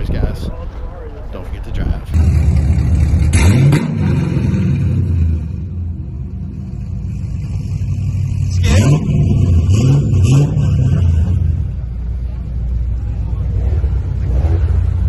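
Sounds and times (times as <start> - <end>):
car exhaust idling and revving: 2.1 - 15.0.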